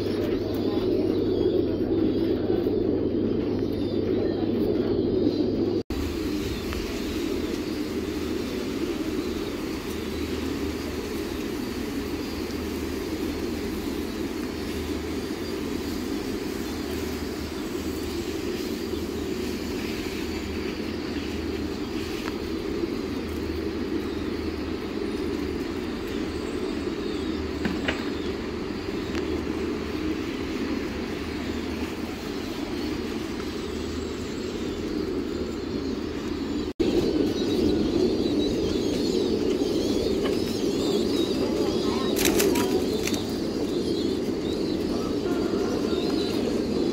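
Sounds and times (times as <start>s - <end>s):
pigeons cooing: 0.0s - 46.9s.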